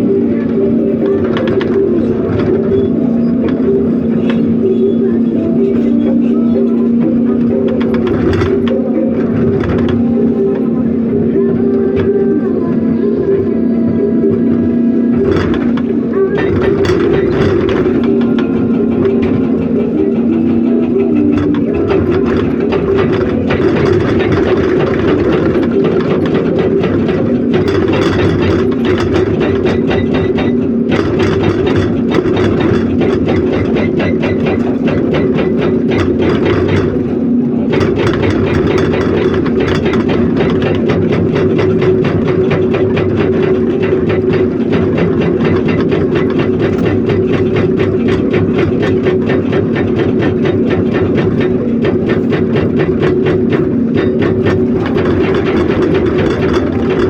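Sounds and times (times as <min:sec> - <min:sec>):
diesel engine drone: 0:00.0 - 0:57.0
hydraulic breaker hammering rock: 0:00.0 - 0:57.0.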